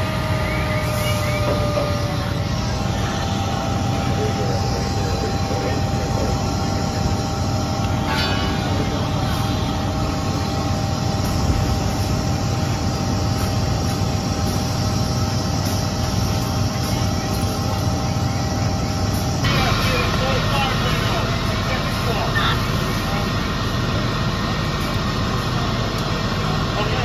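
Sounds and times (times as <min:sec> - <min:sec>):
diesel pump engines droning: 0:00.0 - 0:27.0
faint constant whine: 0:00.0 - 0:27.0.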